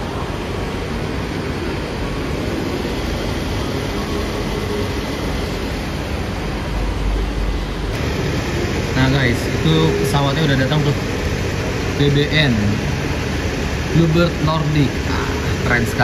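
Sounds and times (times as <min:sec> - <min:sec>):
airport gate background roar: 0:00.0 - 0:16.0.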